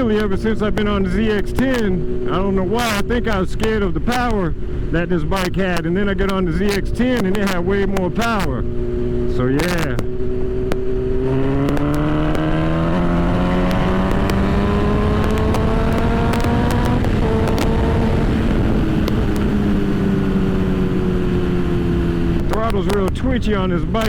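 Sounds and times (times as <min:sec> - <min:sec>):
motorcycle engine pulling under throttle: 0:00.0 - 0:24.0
wind rush on microphone: 0:00.0 - 0:24.0.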